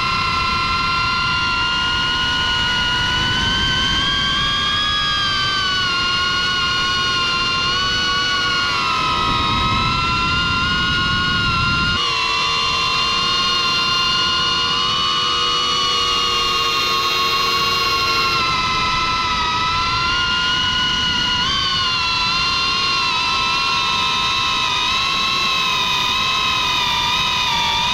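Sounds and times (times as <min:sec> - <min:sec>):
drone motors whining: 0:00.0 - 0:27.9.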